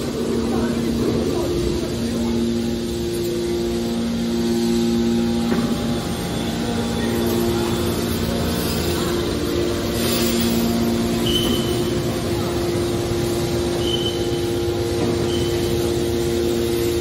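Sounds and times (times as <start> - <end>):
motors and hydraulic pumps humming: 0.0 - 17.0.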